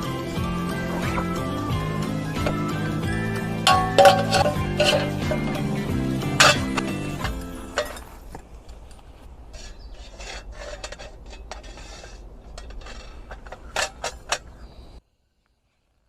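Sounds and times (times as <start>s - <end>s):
rasping scraping strokes: 0.0s - 14.8s.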